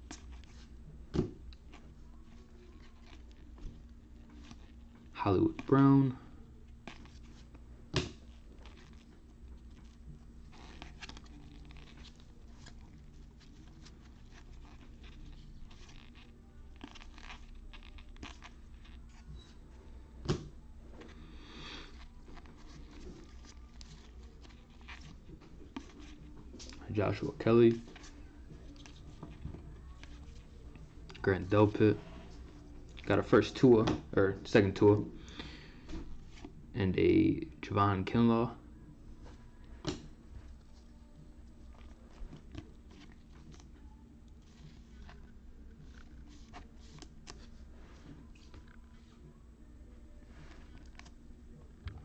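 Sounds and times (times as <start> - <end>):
cards rustling and scraping: 0.0 - 5.8, 6.6 - 33.9, 39.2 - 49.3, 50.2 - 51.3.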